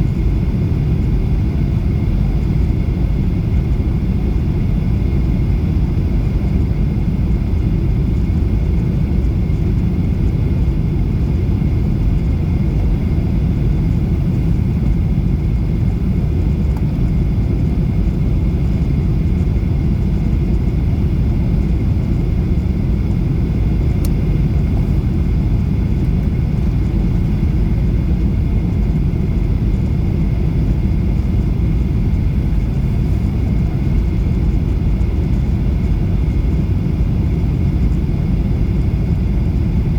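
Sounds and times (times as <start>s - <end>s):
airliner rumble: 0.0s - 39.9s.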